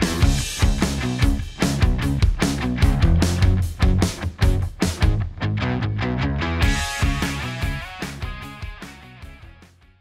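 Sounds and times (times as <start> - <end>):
rock music with guitar: 0.0 - 10.0.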